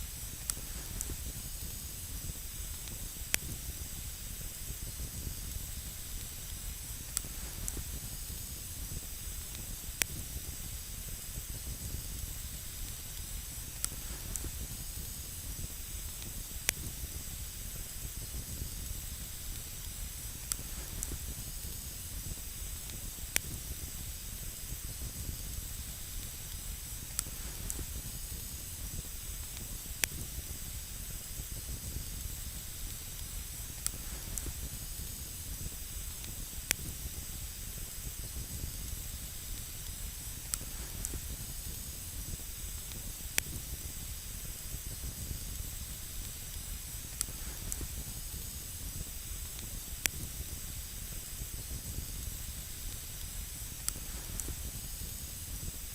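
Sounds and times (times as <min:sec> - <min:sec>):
campfire hissing: 0:00.0 - 0:55.9.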